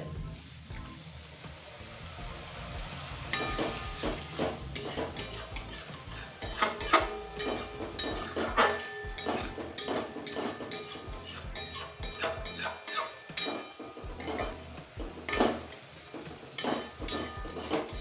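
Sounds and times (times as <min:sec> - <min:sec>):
soft sizzle of frying: 0:00.0 - 0:18.0
metal spatula scraping a pan: 0:03.1 - 0:18.0.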